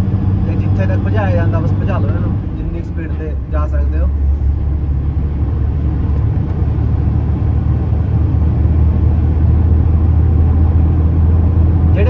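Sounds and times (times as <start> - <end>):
diesel truck engine accelerating: 0.0 - 12.0
road rumble: 0.0 - 12.0.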